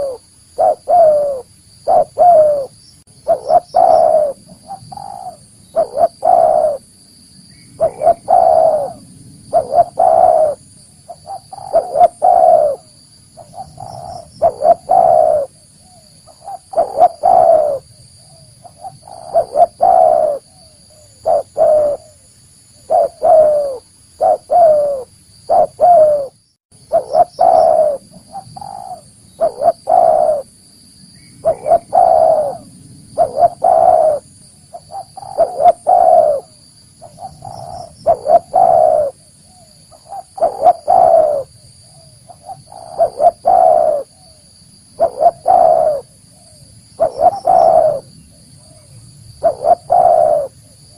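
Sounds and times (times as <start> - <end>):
dove cooing: 0.0 - 6.9, 7.8 - 30.5, 31.4 - 50.9.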